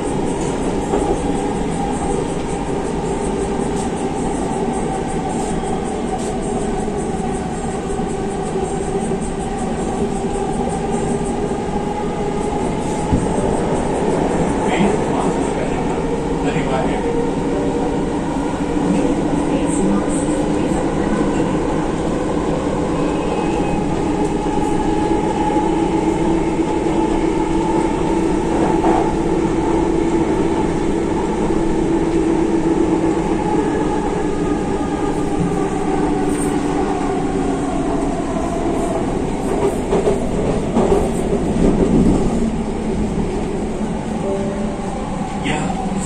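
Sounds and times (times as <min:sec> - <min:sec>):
train motors and wheels humming: 0:00.0 - 0:46.0.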